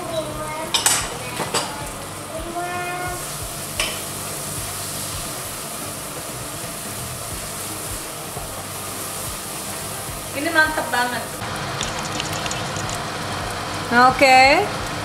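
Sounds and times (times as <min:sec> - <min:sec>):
paste sizzling in oil: 0:00.0 - 0:13.7.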